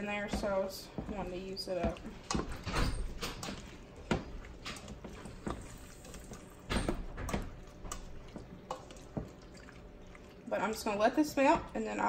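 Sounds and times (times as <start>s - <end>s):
spoon stirring pasta in sauce: 0.0s - 11.7s.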